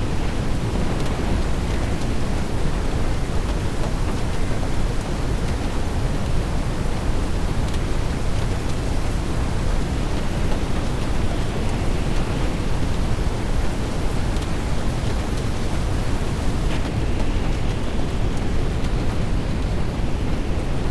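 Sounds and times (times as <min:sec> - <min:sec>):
rain: 0:00.0 - 0:20.9
wind: 0:00.0 - 0:20.9.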